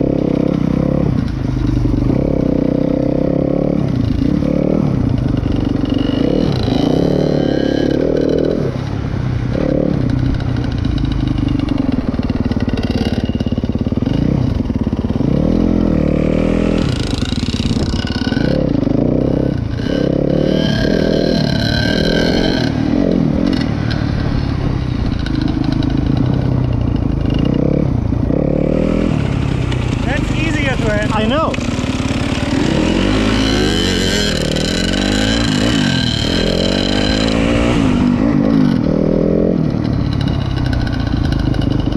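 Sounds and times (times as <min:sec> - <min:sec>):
dirt bike engine revving: 0:00.0 - 0:08.8, 0:09.5 - 0:41.9.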